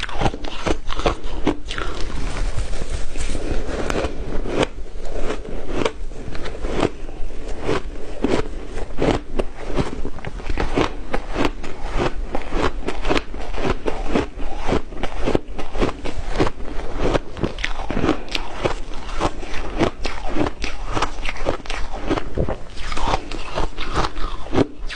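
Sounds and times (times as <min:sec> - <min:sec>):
ice being chewed: 0:00.0 - 0:24.9.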